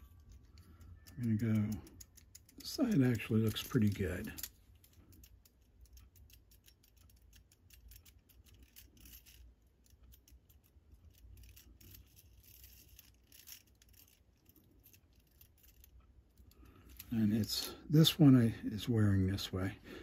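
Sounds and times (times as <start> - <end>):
small metallic clicks and rattles: 0.0 - 17.7.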